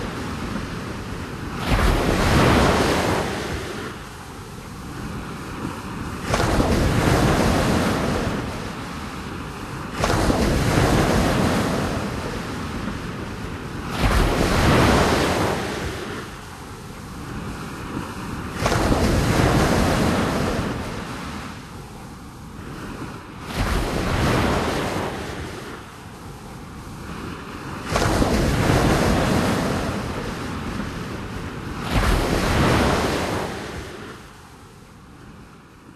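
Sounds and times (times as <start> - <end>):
sea waves breaking: 0.0 - 35.9.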